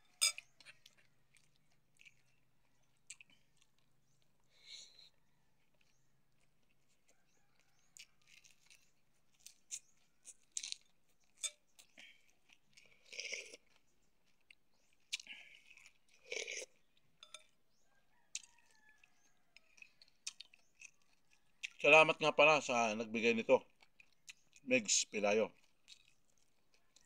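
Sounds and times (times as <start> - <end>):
chewing and lip-smacking: 0.0 - 21.8, 23.6 - 27.0.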